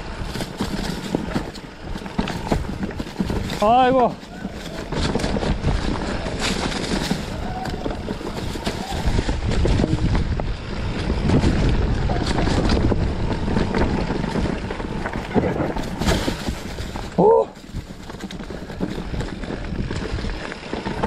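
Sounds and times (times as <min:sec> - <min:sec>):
bike rattling: 0:00.0 - 0:21.0
tyres rumbling over dirt and rocks: 0:00.0 - 0:21.0
wind buffeting the microphone: 0:00.0 - 0:21.0.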